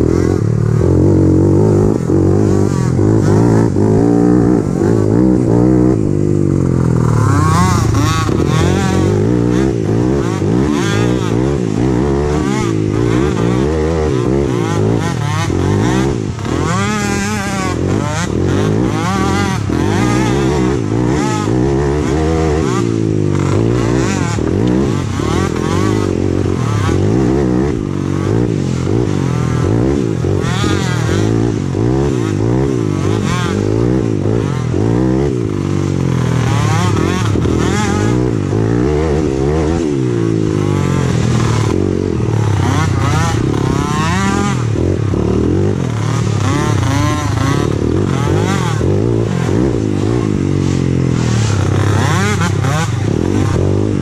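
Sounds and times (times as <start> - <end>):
small quad engines revving: 0.0 - 54.0.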